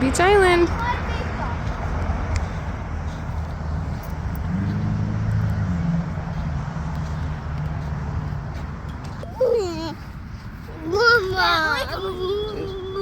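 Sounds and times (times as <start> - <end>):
car road noise from inside: 0.0 - 13.0
low engine hum: 0.0 - 13.0.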